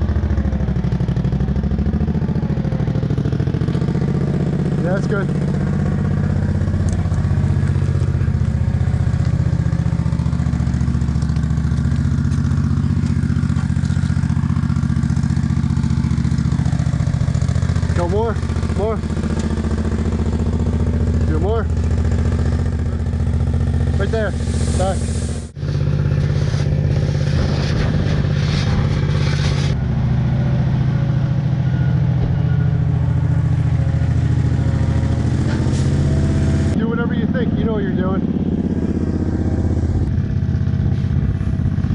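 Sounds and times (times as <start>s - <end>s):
construction machine engine idling: 0.0s - 41.9s.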